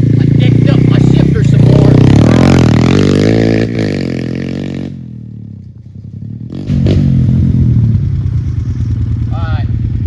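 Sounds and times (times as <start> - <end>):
pit bike engine running: 0.0 - 10.0.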